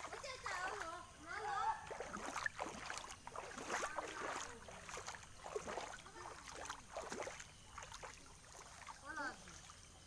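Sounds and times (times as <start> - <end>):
floodwater splashing and sloshing: 0.0 - 10.0.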